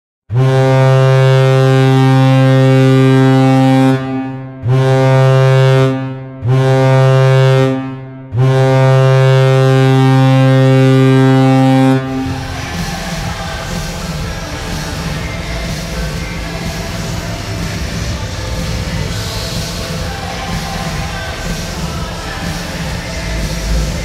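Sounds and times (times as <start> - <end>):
low ship-style air horn blasts: 0.3 - 23.2.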